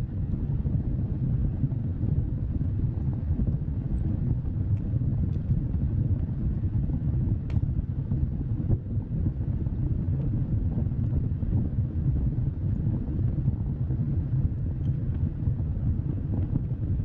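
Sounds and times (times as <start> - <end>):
wood fire rumbling: 0.0 - 17.0.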